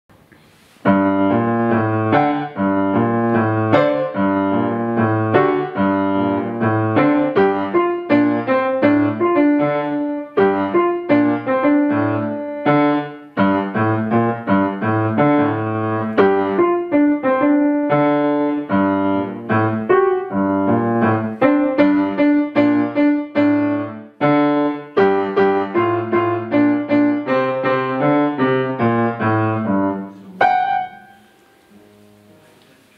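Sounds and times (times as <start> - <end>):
piano piece: 0.1 - 32.9.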